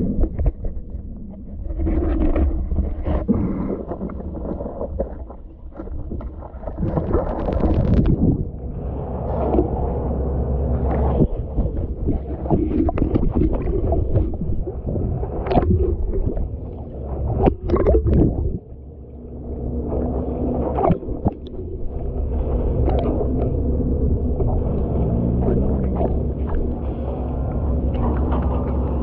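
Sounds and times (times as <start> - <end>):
water sloshing and gurgling: 0.0 - 29.0.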